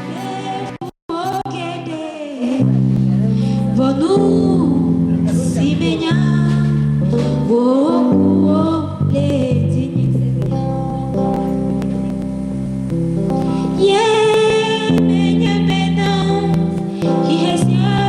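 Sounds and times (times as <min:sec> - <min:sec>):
person singing: 0:00.0 - 0:12.2, 0:13.2 - 0:18.0
guitar: 0:00.0 - 0:18.0
held bass notes: 0:02.6 - 0:18.0.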